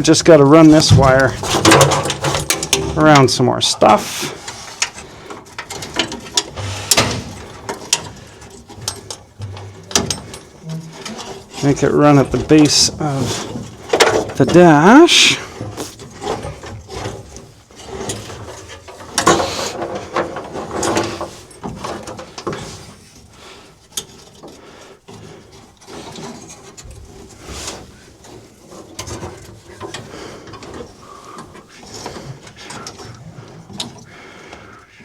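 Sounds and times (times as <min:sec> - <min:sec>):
wiring harness rustling and knocking: 0:00.0 - 0:35.0.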